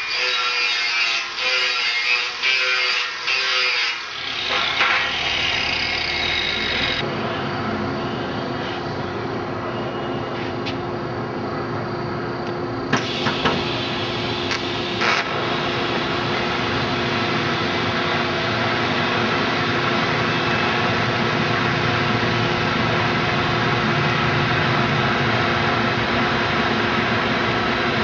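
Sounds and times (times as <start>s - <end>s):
shop machine humming: 0.0s - 28.0s.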